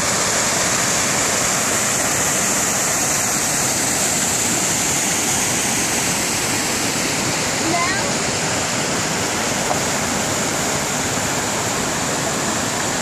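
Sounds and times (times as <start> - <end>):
small waterfall pouring: 0.0 - 13.0
stream rushing over rocks: 0.0 - 13.0.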